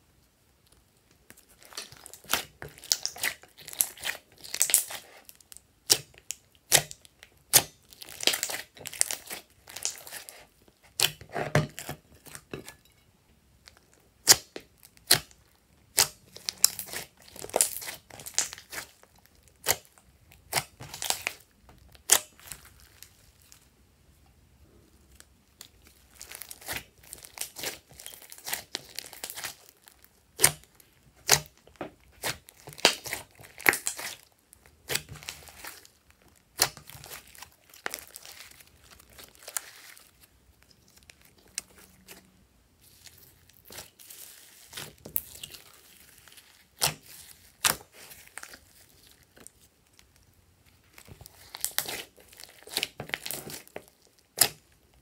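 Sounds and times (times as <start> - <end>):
slime popping and crackling: 1.3 - 12.4, 13.6 - 23.5, 25.2 - 42.2, 42.8 - 55.0.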